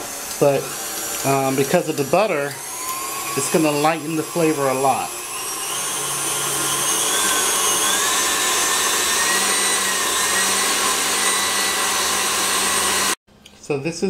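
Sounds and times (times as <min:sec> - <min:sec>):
stand mixer motor whine: 0:00.0 - 0:13.2
whisk beating in bowl: 0:00.0 - 0:13.2.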